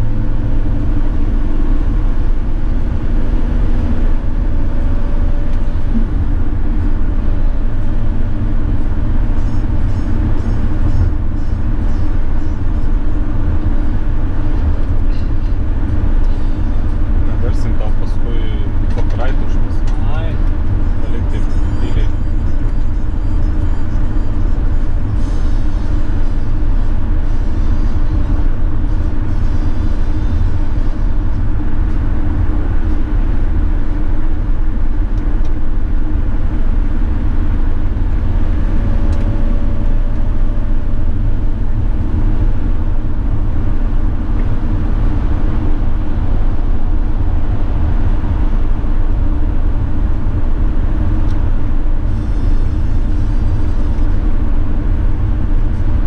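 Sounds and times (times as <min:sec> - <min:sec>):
diesel engine hum: 0:00.0 - 0:56.0
road and wind noise: 0:00.0 - 0:56.0.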